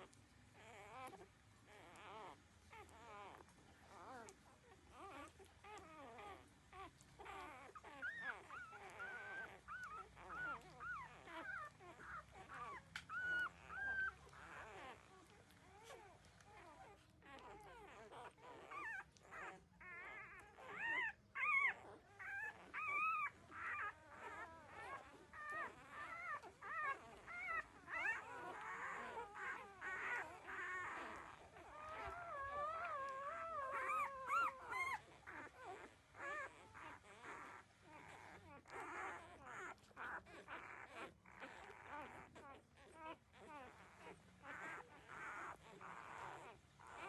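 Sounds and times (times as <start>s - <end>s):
puppies whimpering and squeaking: 0.0s - 47.0s.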